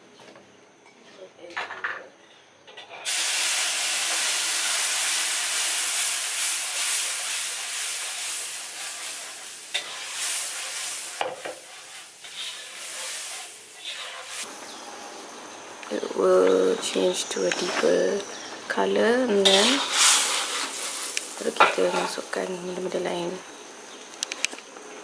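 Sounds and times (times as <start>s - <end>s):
chili paste sizzling in oil: 3.1s - 24.0s.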